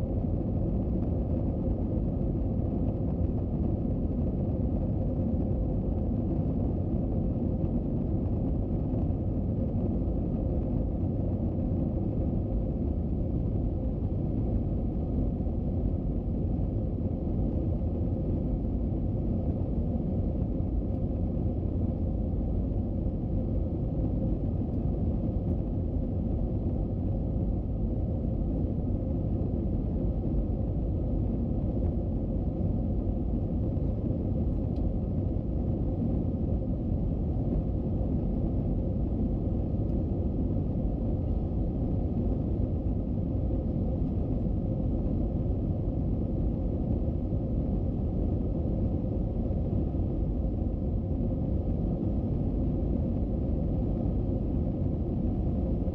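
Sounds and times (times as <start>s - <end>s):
faint steady hum: 0.0s - 55.9s
airliner engines rumbling: 9.4s - 55.9s.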